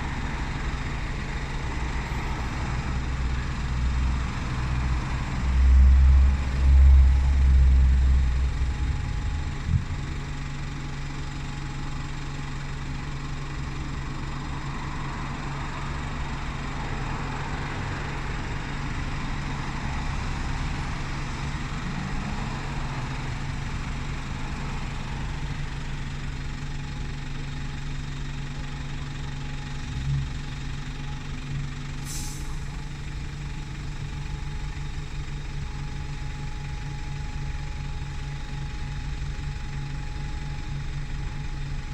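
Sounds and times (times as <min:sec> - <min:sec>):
diesel bus engine idling: 0:00.0 - 0:41.9.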